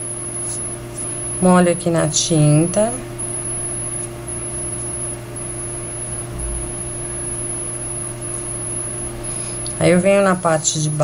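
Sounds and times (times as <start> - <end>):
faint high whine: 0.0 - 11.0
machine hum: 0.0 - 11.0.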